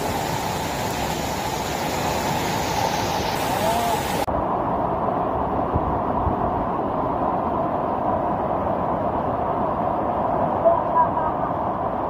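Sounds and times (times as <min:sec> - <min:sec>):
mountain stream and waterfall roar: 0:00.0 - 0:12.0.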